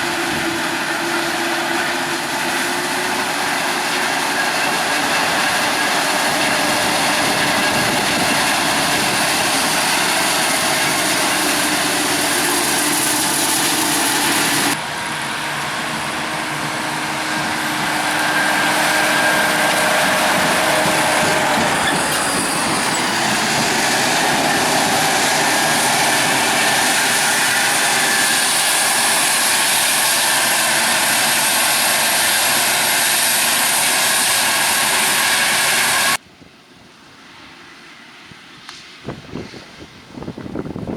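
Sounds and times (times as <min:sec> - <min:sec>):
heavy harvesting machinery running: 0:00.0 - 0:36.2.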